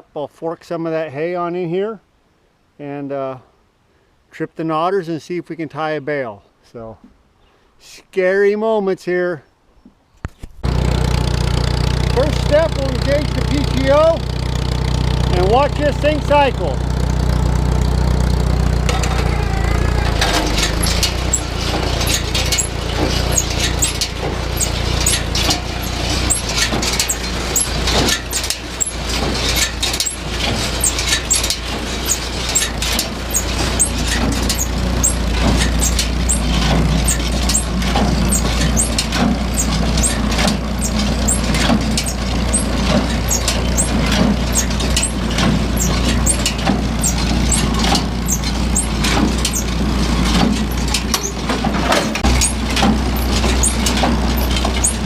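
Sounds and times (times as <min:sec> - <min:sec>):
baler clattering metallic clicks: 0:10.6 - 0:55.0
tractor engine running: 0:10.6 - 0:55.0.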